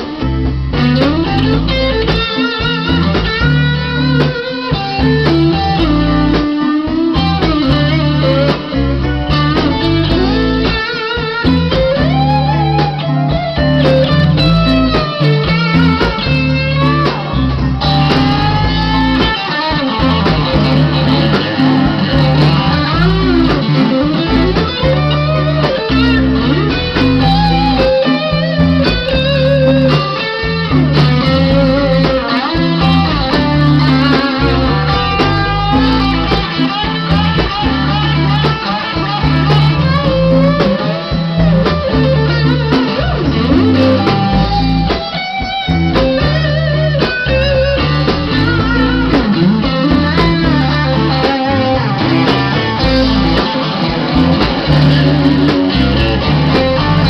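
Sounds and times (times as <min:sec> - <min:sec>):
lead guitar bending pitch: 0:00.0 - 0:57.0
rock band playing: 0:00.0 - 0:57.0.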